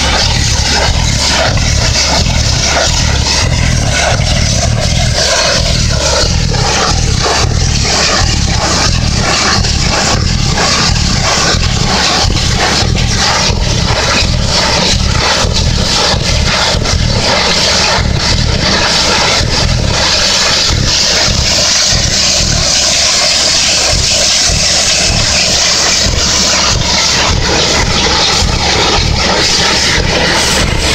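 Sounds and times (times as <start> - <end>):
drilling rig machine drone: 0.0 - 30.9
machine hiss: 0.0 - 30.9
rapid regular pulsing: 0.0 - 30.9.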